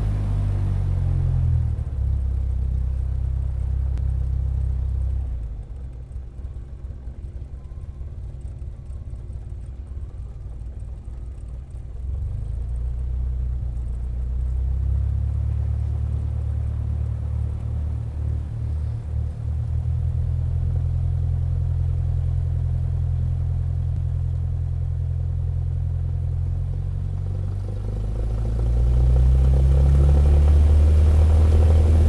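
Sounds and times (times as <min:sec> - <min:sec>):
propeller plane engine rumbling: 0:00.0 - 0:32.0.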